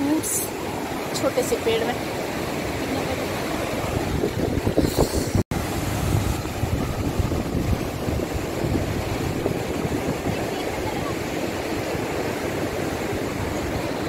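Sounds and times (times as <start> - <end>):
river rushing over rocks: 0.0 - 4.8, 5.6 - 14.0
wind buffeting microphone: 0.0 - 14.0.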